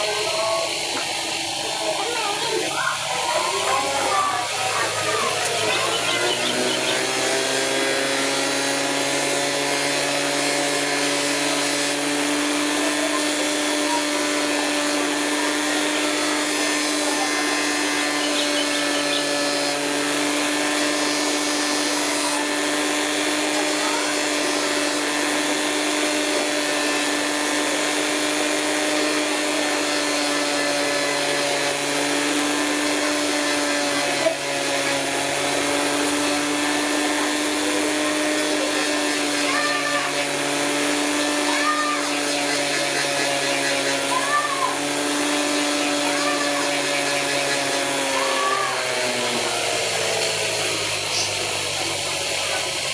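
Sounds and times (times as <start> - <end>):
grinding machine motor hum: 0.0 - 52.9.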